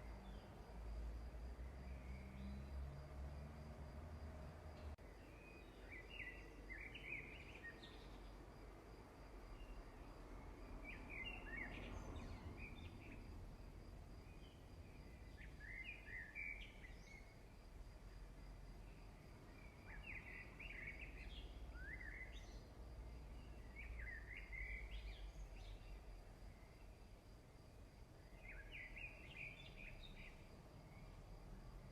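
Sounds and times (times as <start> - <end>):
small birds chirping: 4.8 - 8.6, 9.2 - 31.9.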